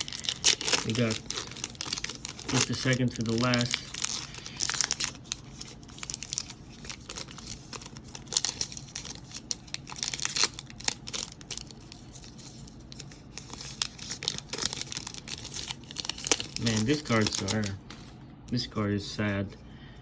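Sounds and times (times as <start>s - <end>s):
plastic wrapper crinkling and tearing: 0.0s - 18.1s.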